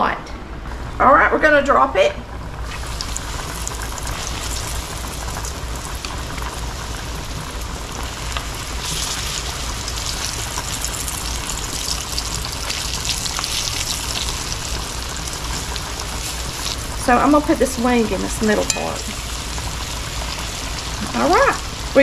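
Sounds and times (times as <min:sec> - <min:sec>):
chicken sizzling in frying fat: 0:02.4 - 0:22.0.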